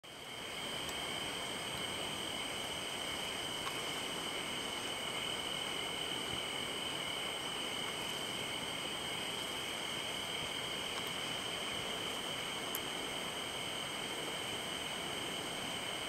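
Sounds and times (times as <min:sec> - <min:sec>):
crickets trilling: 0:00.0 - 0:16.0
background hiss: 0:00.1 - 0:16.0.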